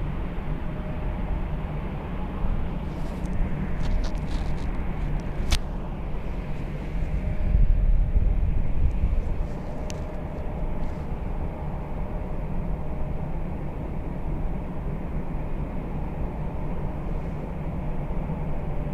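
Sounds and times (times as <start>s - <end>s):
jet engines rumbling at takeoff: 0.0s - 18.9s.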